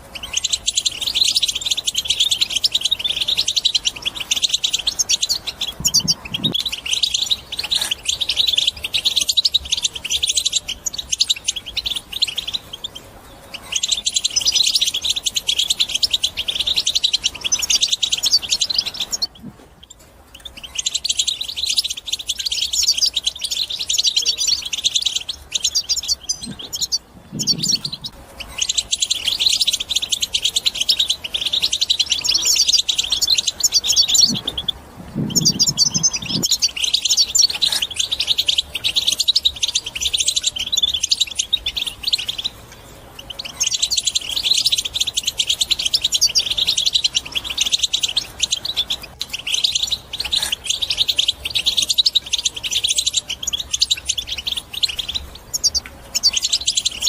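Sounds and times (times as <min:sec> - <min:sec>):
goldfinch twittering: 0:00.0 - 0:57.0.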